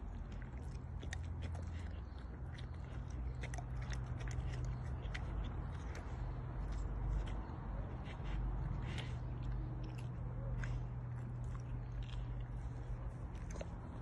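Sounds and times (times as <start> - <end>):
dog licking and gnawing: 0.0 - 14.0.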